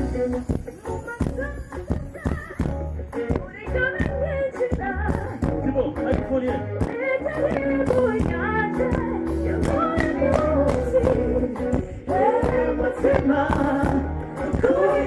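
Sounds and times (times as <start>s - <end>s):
live pop music with singing: 0.0s - 15.0s.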